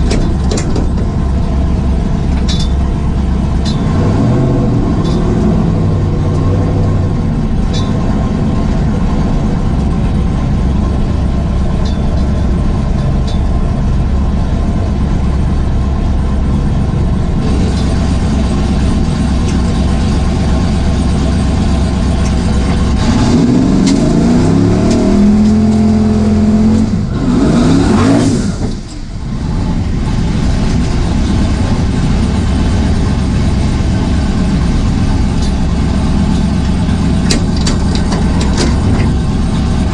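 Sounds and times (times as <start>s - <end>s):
drag car engine revving: 0.0s - 39.9s.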